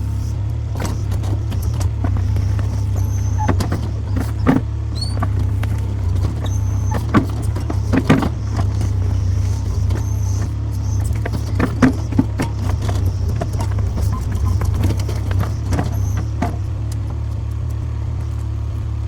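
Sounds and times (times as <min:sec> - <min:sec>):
diesel engine running: 0:00.0 - 0:19.0
machine knocks and clanks: 0:00.7 - 0:17.6.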